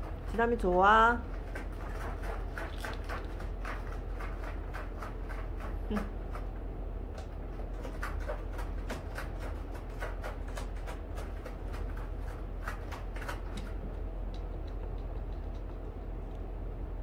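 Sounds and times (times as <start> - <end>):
cat scratching cardboard: 0.0 - 16.6
steady low hum: 0.0 - 17.0.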